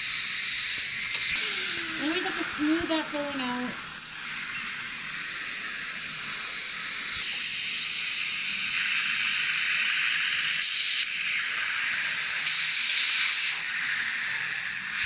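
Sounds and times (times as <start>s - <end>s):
dental suction hissing: 0.0s - 15.0s.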